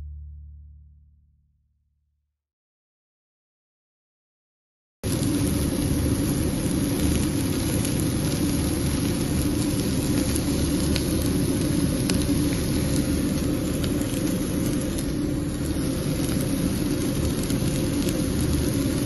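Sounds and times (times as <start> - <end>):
low mechanical rumble: 0.0 - 1.5, 5.1 - 19.0.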